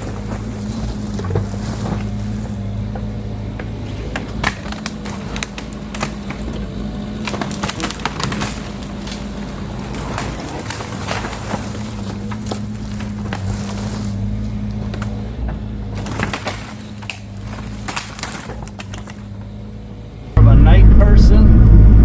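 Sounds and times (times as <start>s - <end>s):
debris cracking and knocking: 0.0s - 19.7s
construction machine engine: 0.0s - 22.0s.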